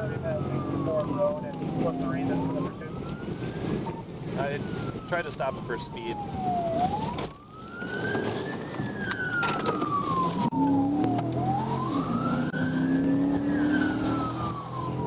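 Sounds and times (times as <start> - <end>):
police siren wailing: 0.0 - 15.0
vehicle engine and road noise: 0.0 - 15.0.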